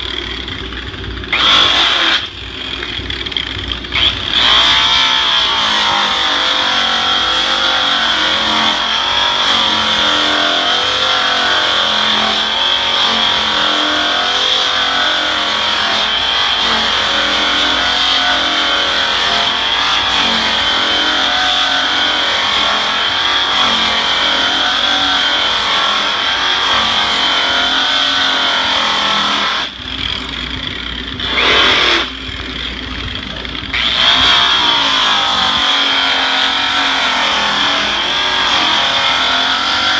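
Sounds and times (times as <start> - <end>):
rotary polisher motor whine: 0.0 - 39.9.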